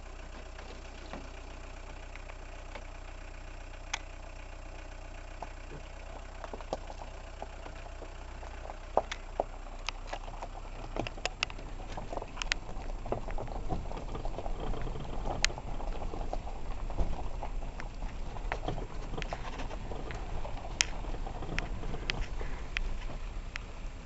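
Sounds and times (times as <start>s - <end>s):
gravel crunching under tyres: 0.0s - 24.0s
low engine rumble: 0.0s - 24.0s.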